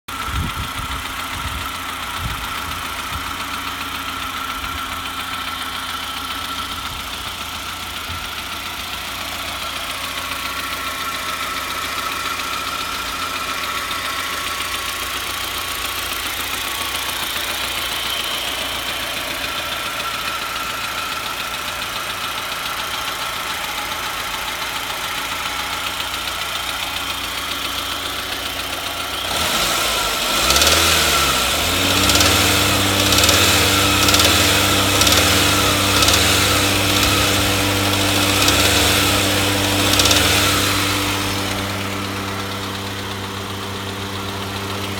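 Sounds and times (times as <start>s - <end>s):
car engine idling with knocking: 0.1s - 44.9s.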